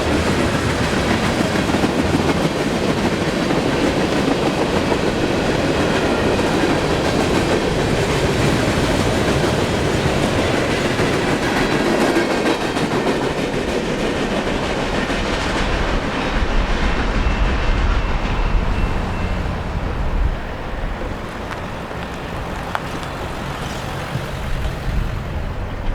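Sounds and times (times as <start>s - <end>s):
train wheels clattering on rails: 0.0s - 25.9s.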